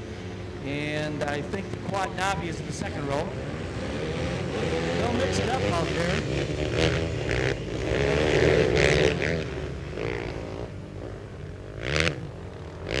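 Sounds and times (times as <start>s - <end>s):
quad engines revving: 0.0s - 13.0s.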